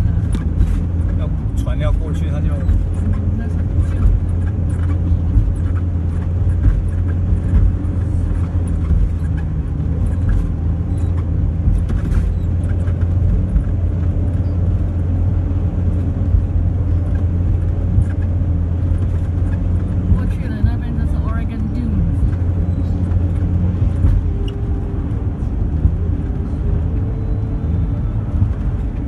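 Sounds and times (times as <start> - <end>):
vehicle engine and tyre drone: 0.0 - 29.0.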